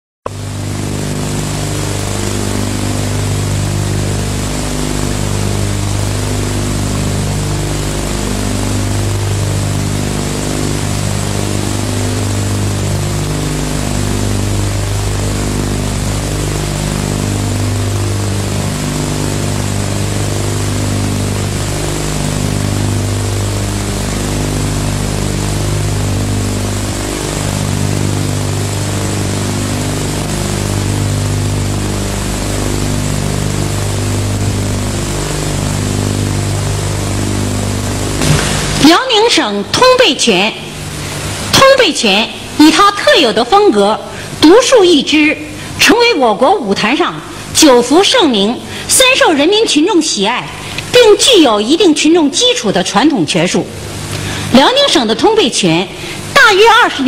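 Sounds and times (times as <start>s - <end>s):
low droning tones: 0.3s - 52.4s, 53.2s - 56.8s
constant hiss: 0.4s - 49.9s.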